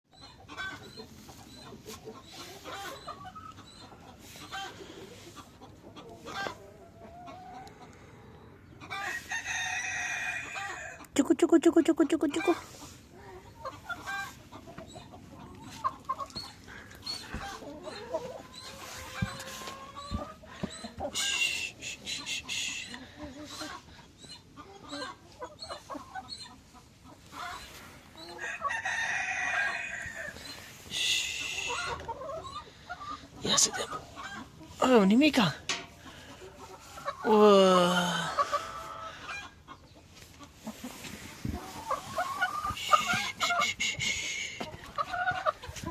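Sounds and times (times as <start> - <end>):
chickens clucking: 0.1 - 45.9.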